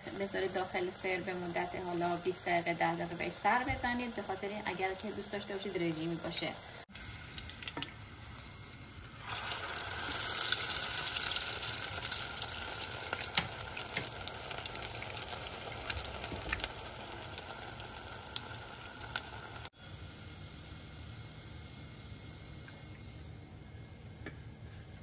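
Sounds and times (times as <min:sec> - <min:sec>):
patty sizzling in hot oil: 0:00.0 - 0:20.9.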